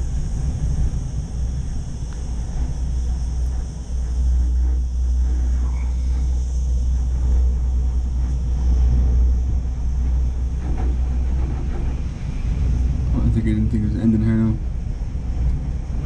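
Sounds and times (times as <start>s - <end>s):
cable car gondola rumble: 0.0s - 16.0s.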